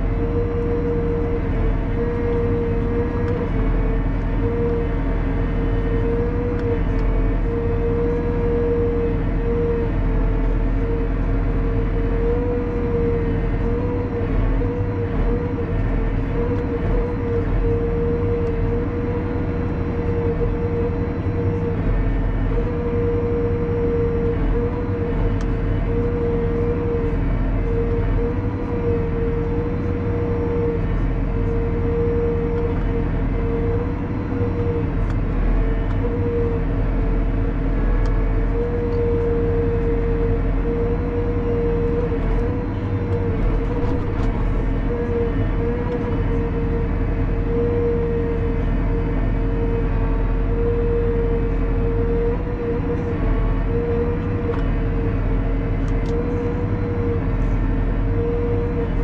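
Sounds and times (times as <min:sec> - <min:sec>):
diesel engine running: 0:00.0 - 0:59.0
hydraulic whine: 0:00.0 - 0:59.0.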